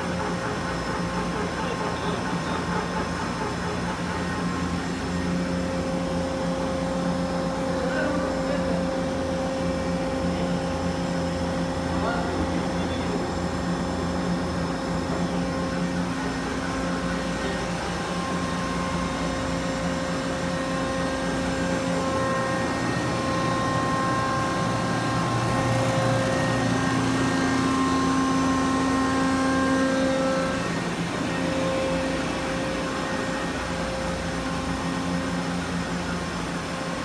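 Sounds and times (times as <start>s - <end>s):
gear shaper machine hum: 0.0s - 37.0s
machine whining tones: 0.0s - 37.0s.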